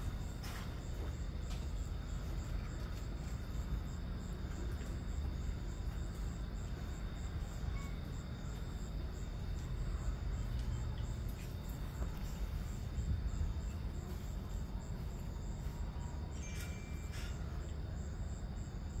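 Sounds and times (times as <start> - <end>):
night insects chirping: 0.0 - 19.0.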